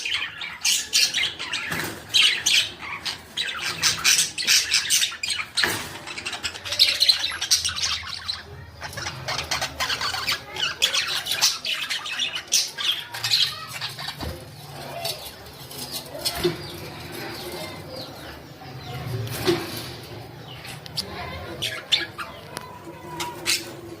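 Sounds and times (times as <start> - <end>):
budgerigars chattering and squawking: 0.0 - 19.4, 20.0 - 24.0.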